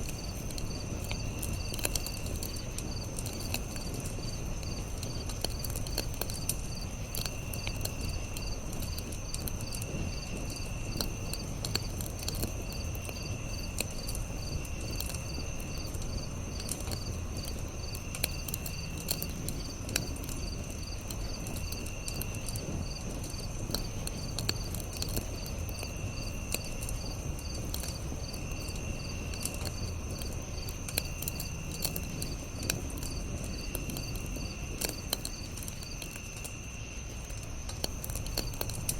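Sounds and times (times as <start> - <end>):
campfire crackling and popping: 0.0 - 38.9
insects chirping: 0.0 - 38.9
lower insect trill: 0.0 - 38.9.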